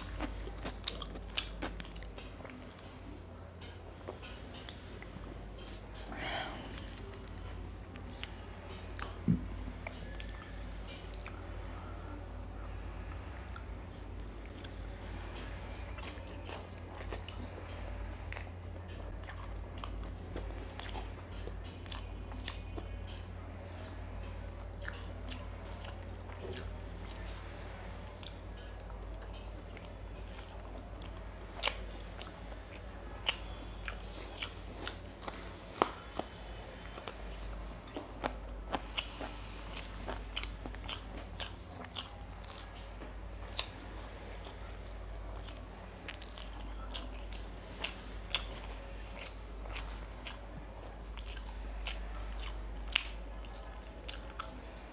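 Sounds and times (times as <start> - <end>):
person chewing food: 0.0 - 54.8.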